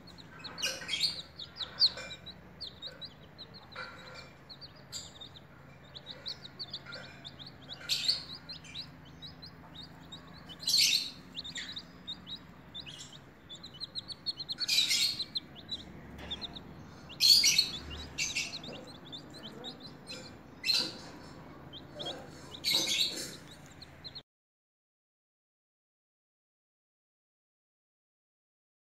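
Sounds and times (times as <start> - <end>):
baby chick peeping: 0.0 - 24.2.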